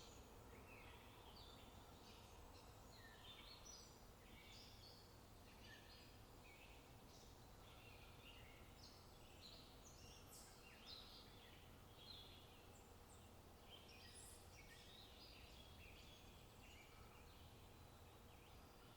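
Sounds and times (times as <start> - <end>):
low steady hum: 0.0 - 18.9
small birds chirping: 0.0 - 18.9.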